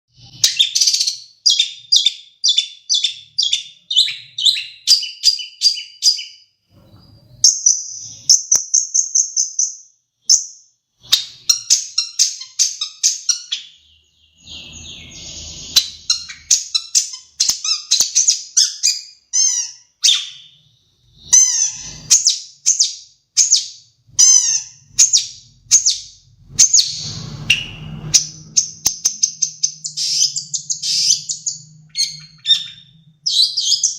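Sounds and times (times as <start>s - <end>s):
bird song with chirps and trills: 0.1s - 33.9s.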